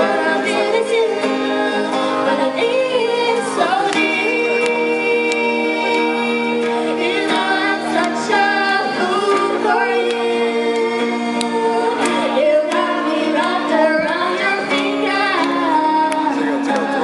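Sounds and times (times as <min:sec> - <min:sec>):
acoustic guitar: 0:00.0 - 0:17.0
woman singing: 0:00.0 - 0:17.0.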